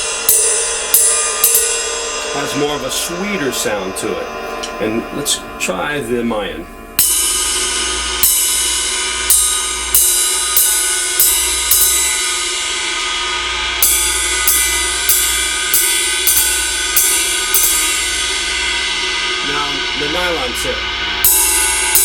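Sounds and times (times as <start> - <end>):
ride cymbal strokes ringing: 0.0 - 22.0.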